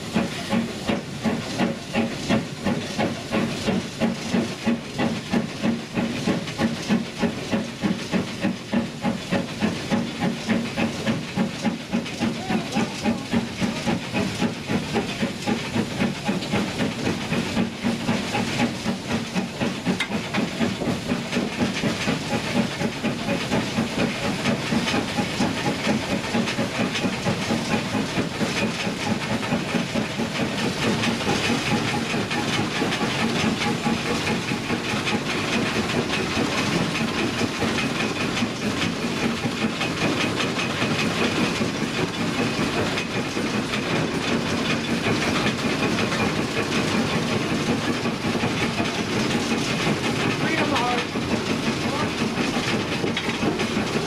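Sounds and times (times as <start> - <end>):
steam locomotive hissing and pulsing: 0.0 - 54.0.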